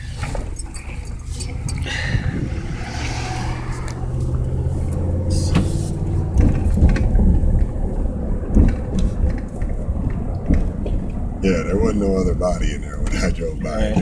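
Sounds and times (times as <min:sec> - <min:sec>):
car engine and tyre hum: 0:00.0 - 0:14.0.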